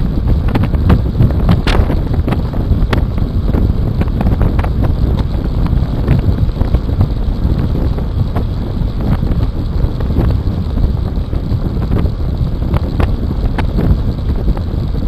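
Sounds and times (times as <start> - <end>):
road rumble: 0.0 - 15.0
wind buffeting microphone: 0.0 - 15.0.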